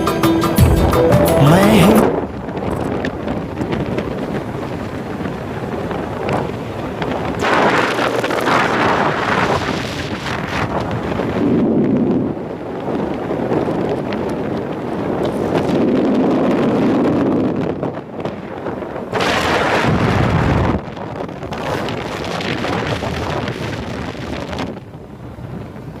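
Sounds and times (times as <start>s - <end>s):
wind buffeting microphone: 1.7s - 26.0s.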